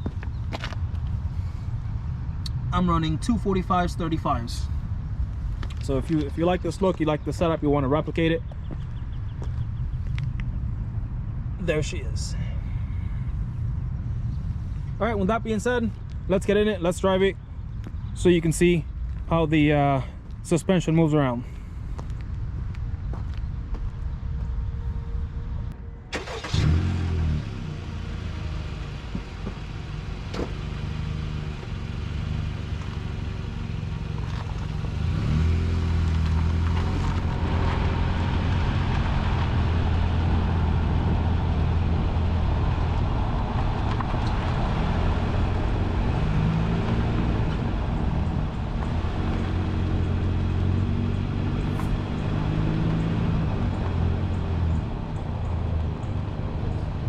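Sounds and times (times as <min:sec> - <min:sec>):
car engine drone: 0:00.0 - 0:57.0
road and tyre noise: 0:00.0 - 0:57.0.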